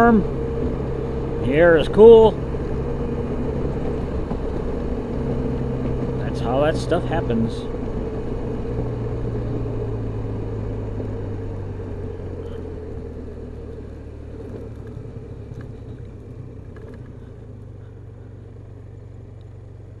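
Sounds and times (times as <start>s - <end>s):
scooter engine droning: 0.0s - 20.0s
wind and road rush: 0.0s - 20.0s.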